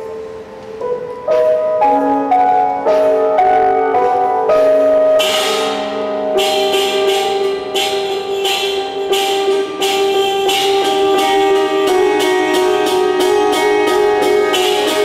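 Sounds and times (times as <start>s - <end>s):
grand piano notes and chords: 0.0s - 15.0s.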